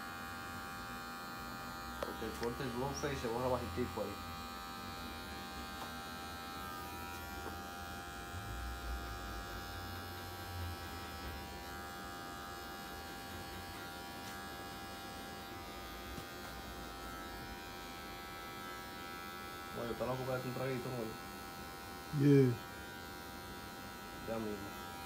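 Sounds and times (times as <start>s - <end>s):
electric hair clipper humming: 0.0s - 25.0s.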